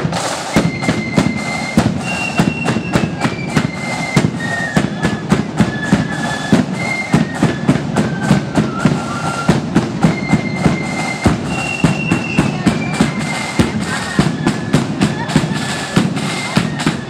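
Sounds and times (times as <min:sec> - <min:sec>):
high flute melody: 0:00.0 - 0:17.0
snare and bass drums beat: 0:00.0 - 0:17.0.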